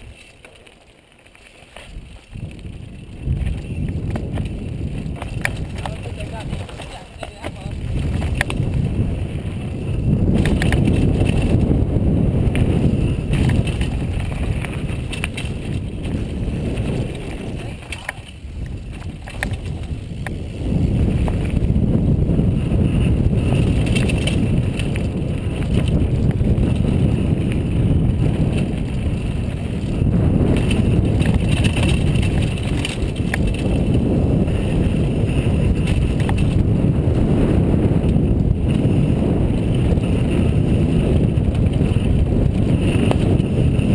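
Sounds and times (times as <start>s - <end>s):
bike rattling: 0.0s - 43.9s
bike tyre rumble: 0.0s - 43.9s
wind buffeting microphone: 1.8s - 43.9s.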